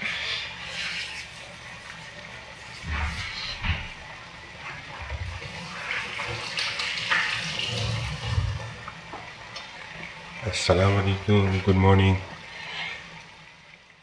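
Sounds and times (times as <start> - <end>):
water rushing and splashing: 0.0 - 14.0.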